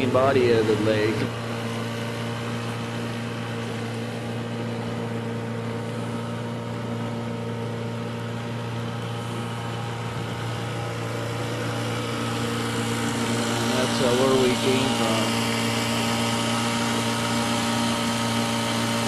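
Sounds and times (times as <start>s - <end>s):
outboard motor droning: 0.0s - 19.0s.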